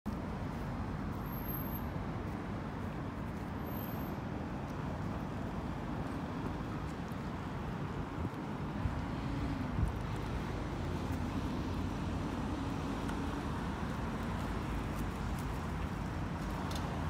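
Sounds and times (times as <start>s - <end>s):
road traffic rumble: 0.1s - 17.0s.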